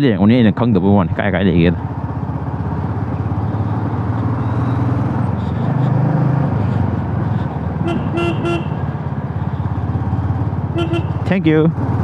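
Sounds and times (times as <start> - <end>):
road and wind noise: 0.0 - 12.0
motorcycle engine running: 1.6 - 12.0.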